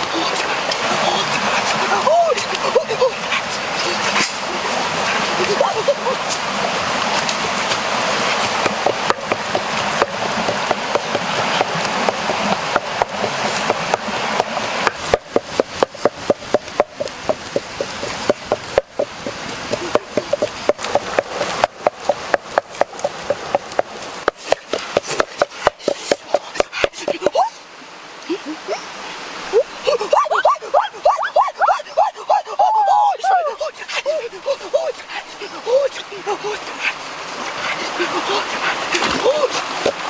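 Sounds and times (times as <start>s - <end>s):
stream water running: 0.0s - 40.0s.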